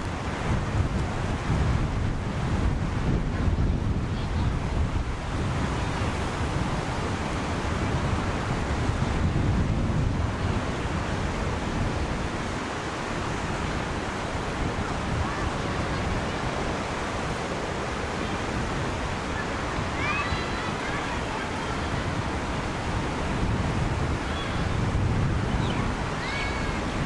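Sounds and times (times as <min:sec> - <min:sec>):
surf breaking on sandy beach: 0:00.0 - 0:27.0.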